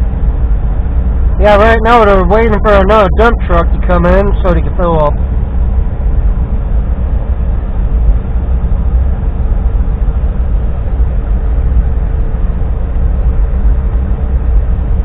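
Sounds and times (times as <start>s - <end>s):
faint steady hum: 0.0s - 15.0s
heavy machinery low rumble: 0.0s - 15.0s.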